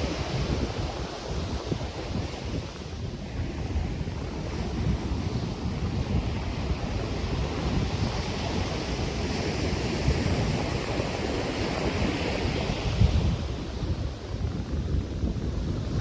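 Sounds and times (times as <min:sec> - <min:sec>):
ocean surf breaking: 0:00.0 - 0:15.2
wind buffeting microphone: 0:00.0 - 0:16.0.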